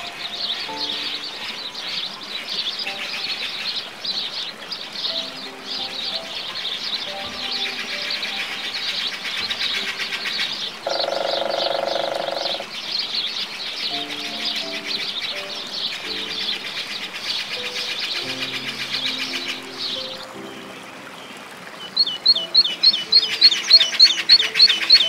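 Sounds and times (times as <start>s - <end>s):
background music with held notes: 0.0s - 12.7s, 13.8s - 25.0s
sparrows chirping: 0.0s - 25.0s.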